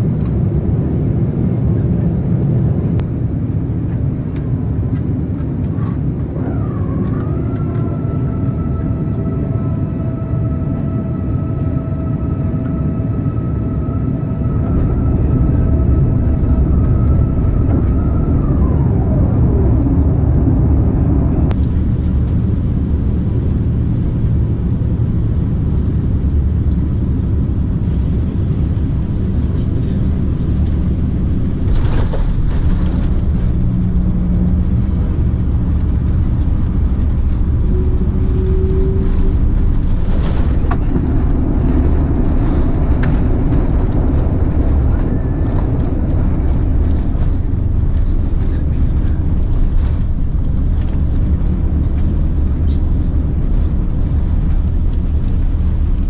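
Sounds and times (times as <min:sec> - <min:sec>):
aircraft engine rumble: 0:00.0 - 0:56.0
mechanical whine: 0:04.0 - 0:56.0.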